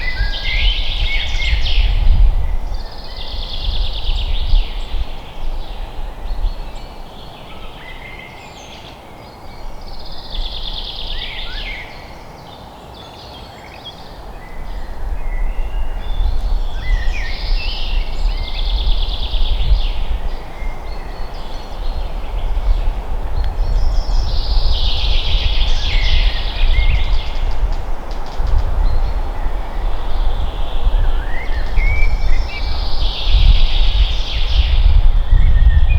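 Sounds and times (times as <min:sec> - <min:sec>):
low wind rumble: 0:00.0 - 0:12.4, 0:14.0 - 0:35.9
rustling noise hiss: 0:00.0 - 0:35.9
songbird singing trills: 0:00.0 - 0:35.9.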